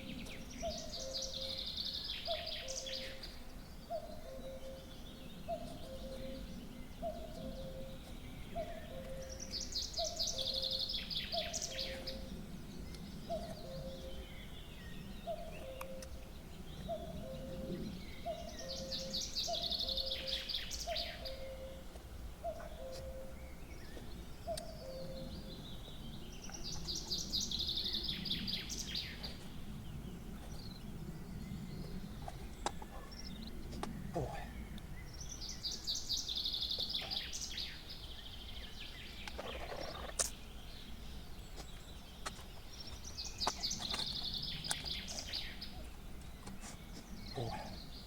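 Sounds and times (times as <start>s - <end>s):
nightingale singing: 0.0s - 48.0s.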